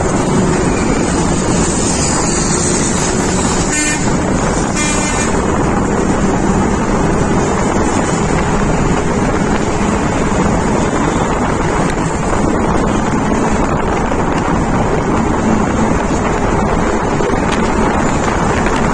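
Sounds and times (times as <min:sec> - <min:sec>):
road and traffic noise: 0:00.0 - 0:18.9
wind rushing over microphone: 0:00.0 - 0:18.9.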